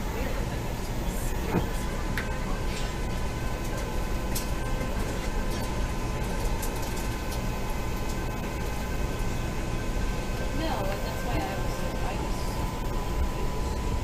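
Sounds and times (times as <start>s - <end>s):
faint steady whine: 0.0s - 14.0s
train rumbling on track: 0.0s - 14.0s.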